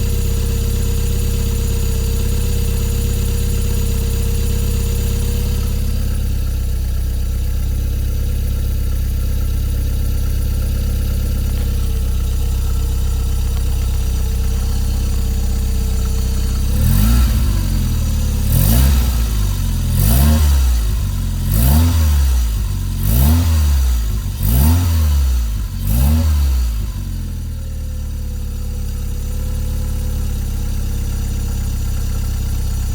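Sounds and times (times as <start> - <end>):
car engine idling and revving: 0.0 - 32.9
engine clicking noise: 0.0 - 32.9.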